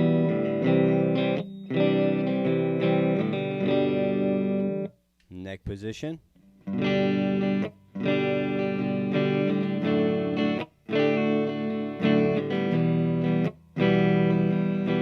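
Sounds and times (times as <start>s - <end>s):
clean electric guitar chords: 0.0s - 4.9s, 6.6s - 15.0s.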